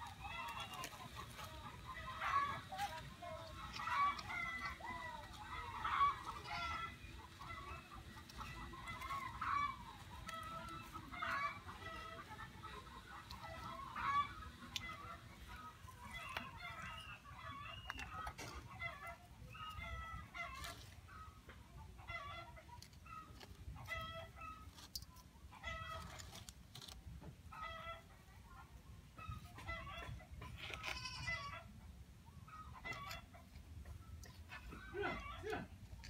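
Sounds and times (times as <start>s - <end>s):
fowl clucking: 0.0s - 26.9s, 27.5s - 36.0s.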